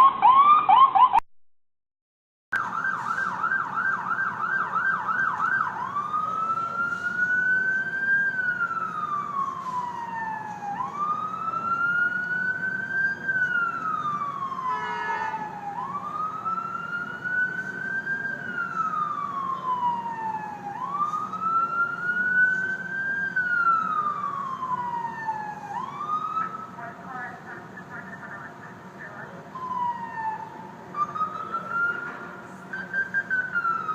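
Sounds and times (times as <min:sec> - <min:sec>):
ambulance siren wailing: 0:00.0 - 0:01.2, 0:02.6 - 0:33.9
engine and road noise: 0:00.0 - 0:01.2, 0:02.5 - 0:33.9.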